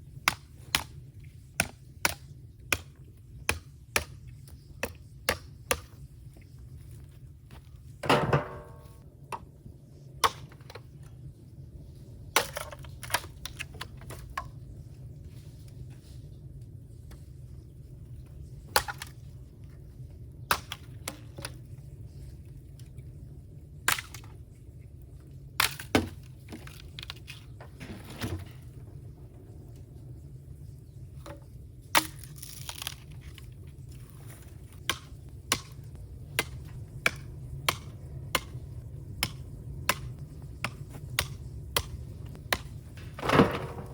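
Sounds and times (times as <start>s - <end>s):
bamboo fire crackling and popping: 0.0s - 8.0s, 9.6s - 27.6s, 28.7s - 43.9s
fire low rumble: 0.0s - 20.5s, 26.2s - 32.0s, 33.1s - 43.9s.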